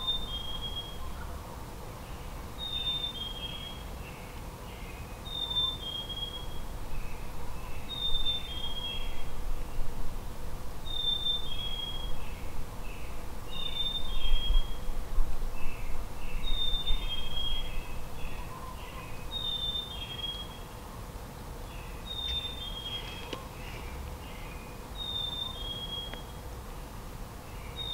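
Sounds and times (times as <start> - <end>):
songbird singing: 0.0 - 10.0, 10.8 - 27.9.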